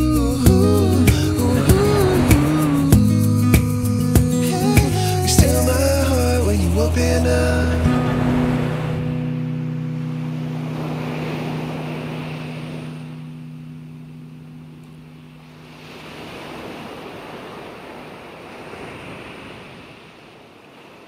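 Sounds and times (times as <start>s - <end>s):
ocean surf washing up beach: 0.0s - 21.0s.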